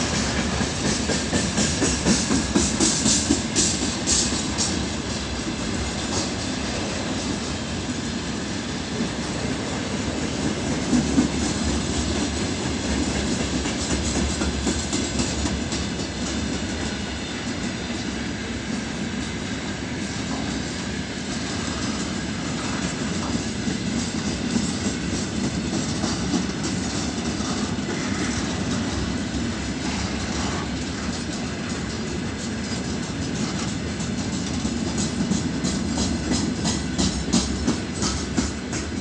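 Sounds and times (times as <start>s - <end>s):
freight train rumbling: 0.0s - 39.0s
wheels clicking over rail joints: 0.1s - 8.0s, 9.0s - 17.0s, 21.5s - 39.0s.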